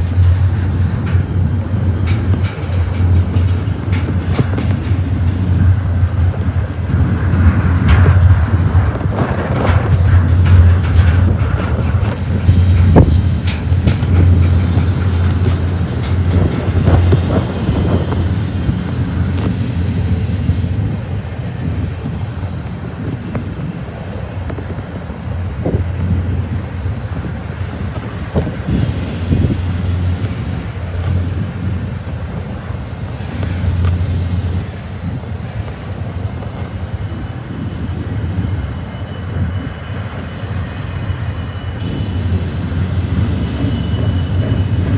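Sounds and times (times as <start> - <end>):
metallic clanks from train cars: 0.0 - 44.9
train wheels rumbling on rails: 0.0 - 44.9.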